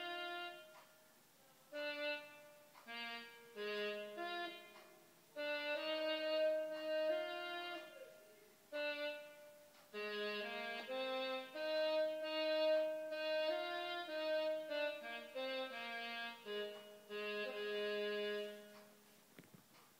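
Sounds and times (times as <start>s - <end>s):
synthesized woodwind held notes: 0.0s - 1.1s, 1.7s - 19.0s.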